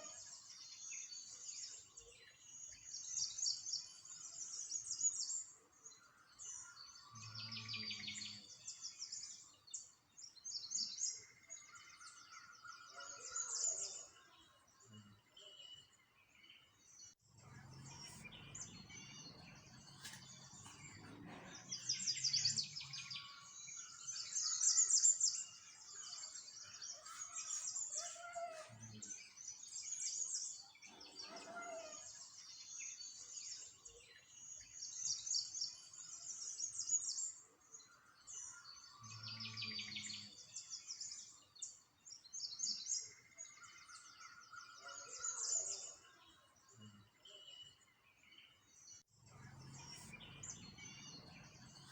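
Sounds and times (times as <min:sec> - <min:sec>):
songbirds chirping chorus: 0:00.0 - 0:51.9.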